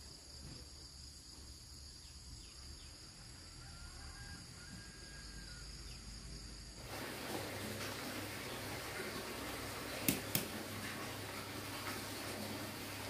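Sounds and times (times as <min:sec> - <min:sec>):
insects chirring: 0:00.0 - 0:10.6
room noise hiss: 0:00.0 - 0:13.0.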